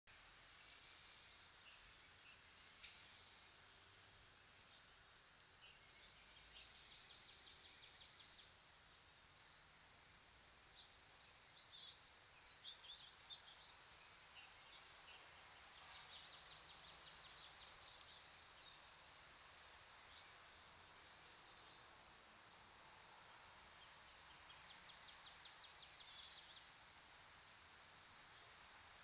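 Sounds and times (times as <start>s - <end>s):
faint steady hiss: 0.1s - 29.0s
distant songbirds trilling: 0.3s - 29.0s.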